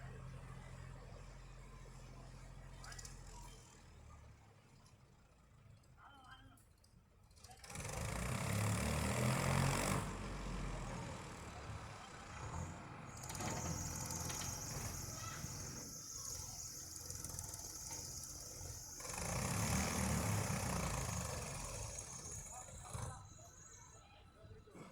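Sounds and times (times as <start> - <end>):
outdoor background noise: 0.0 - 24.9.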